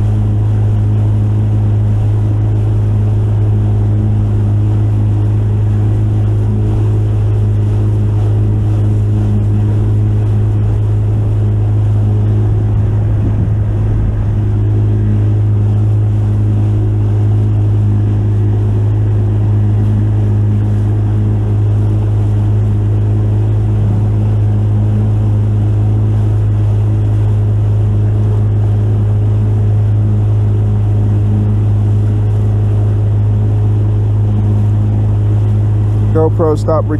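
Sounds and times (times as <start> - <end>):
boat motor droning: 0.0 - 36.9.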